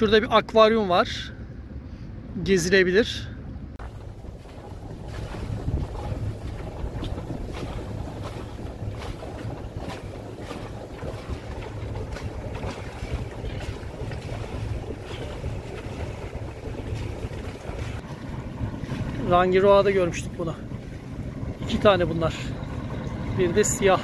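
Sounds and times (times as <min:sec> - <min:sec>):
boat engine running: 0:00.0 - 0:24.0
water washing along hull: 0:03.8 - 0:24.0
wind on microphone: 0:03.8 - 0:24.0.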